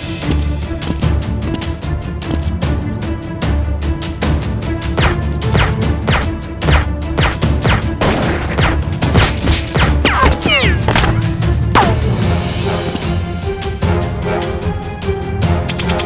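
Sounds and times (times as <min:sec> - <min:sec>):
action soundtrack music: 0:00.0 - 0:16.0.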